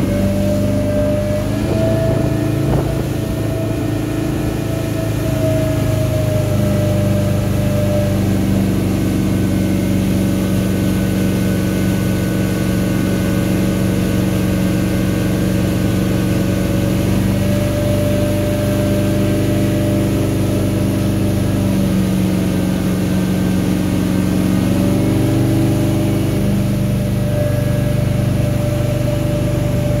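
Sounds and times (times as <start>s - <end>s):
outboard motor running hard: 0.0s - 30.0s
spray and churning water: 0.0s - 30.0s.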